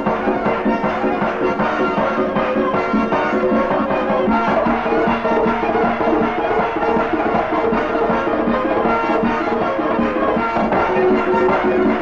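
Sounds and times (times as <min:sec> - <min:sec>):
drum beat: 0:00.0 - 0:12.0
folk dance music: 0:00.0 - 0:12.0.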